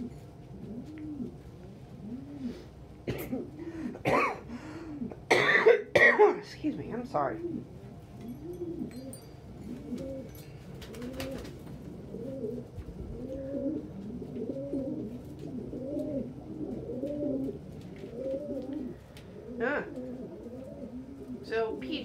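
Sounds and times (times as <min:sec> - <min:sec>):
pigeon cooing: 0:00.0 - 0:05.4, 0:07.2 - 0:22.0.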